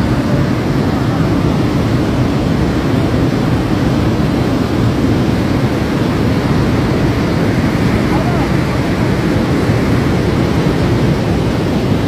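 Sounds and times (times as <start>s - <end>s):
mudflow rushing rumble: 0.0s - 12.0s.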